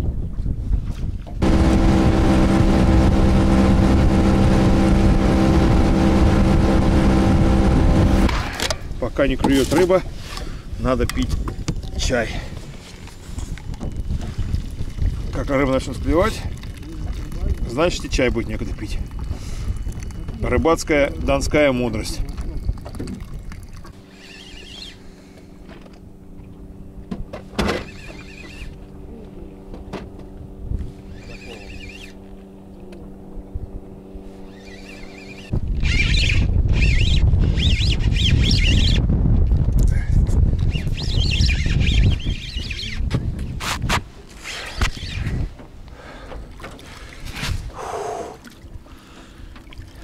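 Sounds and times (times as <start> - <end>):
outboard motor running: 0.5 - 50.0.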